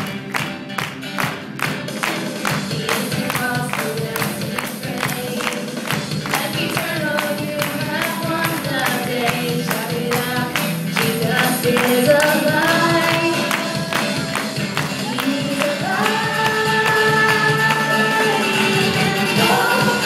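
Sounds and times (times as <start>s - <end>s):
drum kit beat: 0.0s - 20.0s
worship band playing: 0.0s - 20.0s
women singing: 2.6s - 20.0s.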